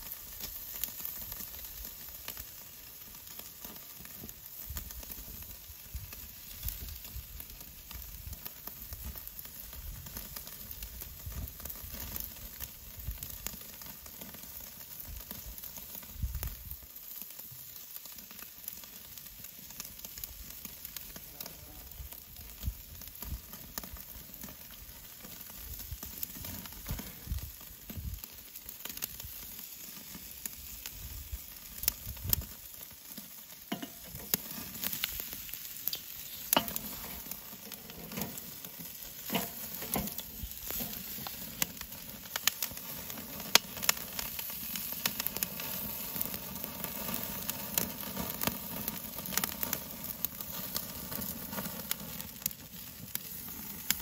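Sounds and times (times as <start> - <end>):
food sizzling: 0.0 - 54.0
sharp pops and crackles: 0.0 - 54.0.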